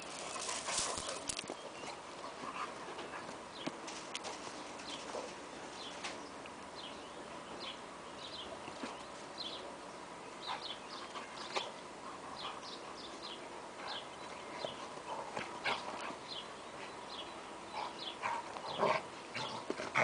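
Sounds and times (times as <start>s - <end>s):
songbird chirping: 0.0s - 19.7s
dogs scuffling on grass: 0.0s - 20.0s.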